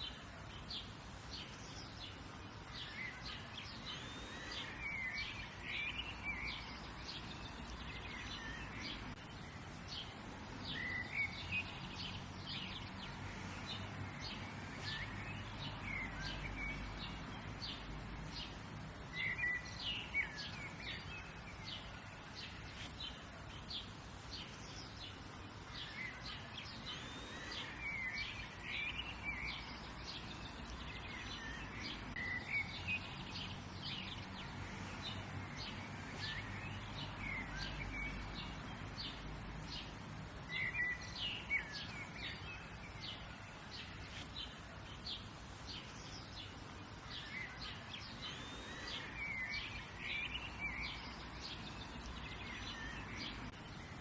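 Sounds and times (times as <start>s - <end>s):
songbirds chirping and warbling: 0.0s - 54.0s.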